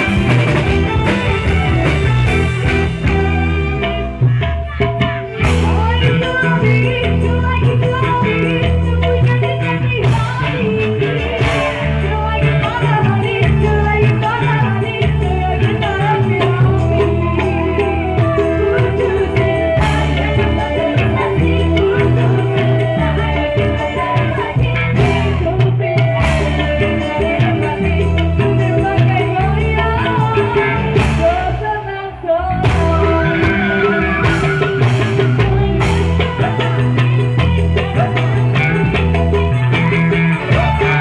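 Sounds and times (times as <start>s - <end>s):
live rock band: 0.0s - 41.0s
woman singing: 0.0s - 41.0s.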